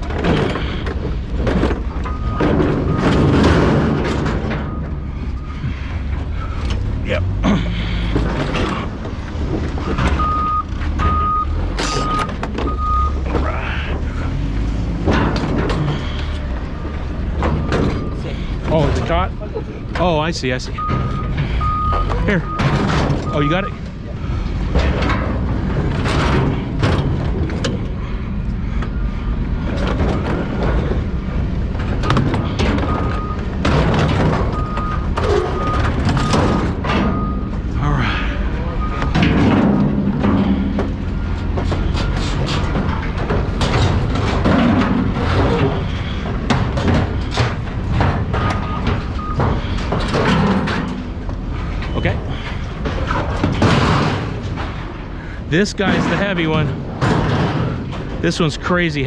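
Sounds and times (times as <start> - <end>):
metallic clanks and clatters: 0.0 - 37.8, 38.5 - 59.0
low diesel engine rumble: 0.0 - 59.0
vehicle backup alarm beeping: 0.1 - 15.0, 16.0 - 24.9, 27.8 - 52.8.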